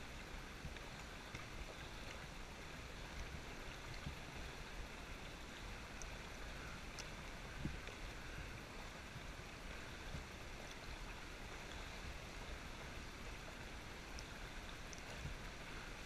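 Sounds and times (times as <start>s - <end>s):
small water splashes: 0.0s - 16.0s
water washing in a cave: 0.0s - 16.0s.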